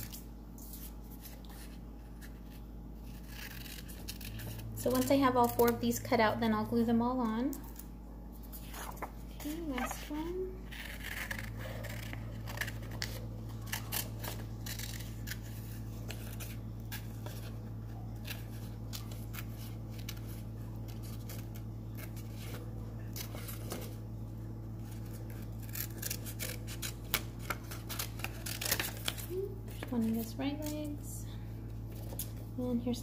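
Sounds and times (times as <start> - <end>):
scissors cutting paper: 0.0 - 6.3, 8.6 - 24.0, 24.8 - 31.0
steady low hum: 0.0 - 33.0.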